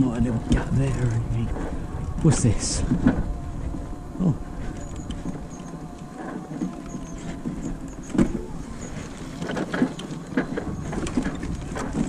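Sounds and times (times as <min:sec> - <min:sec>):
scooter knocking and rattling: 0:00.0 - 0:12.0
scooter motor humming: 0:00.0 - 0:12.0.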